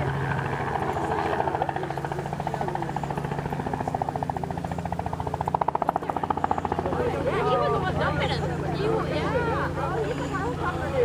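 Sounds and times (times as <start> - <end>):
helicopter engine hum: 0.0 - 11.0
helicopter rotor chopping: 0.0 - 11.0.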